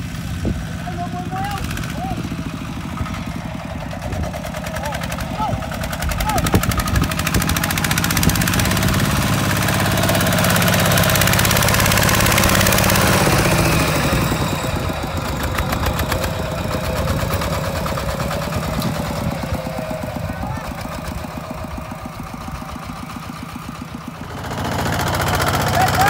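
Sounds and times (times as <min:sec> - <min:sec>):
diesel tractor engine chugging: 0:00.0 - 0:26.0.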